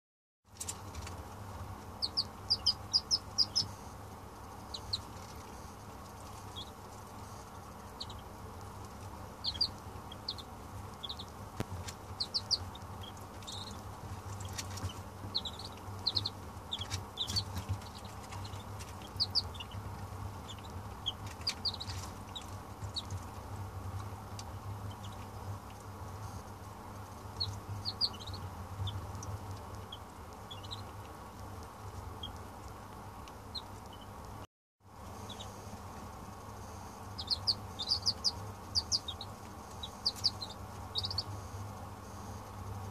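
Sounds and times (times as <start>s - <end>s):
ducklings peeping: 0.5s - 34.4s, 35.0s - 42.9s
low hum: 0.5s - 42.9s.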